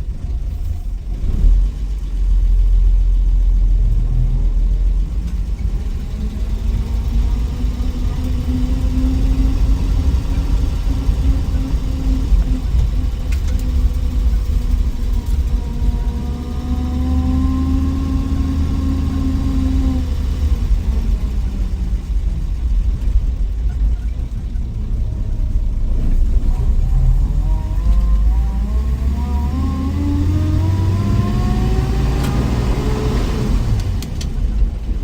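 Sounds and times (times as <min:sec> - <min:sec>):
car engine rumbling: 0:00.0 - 0:35.0.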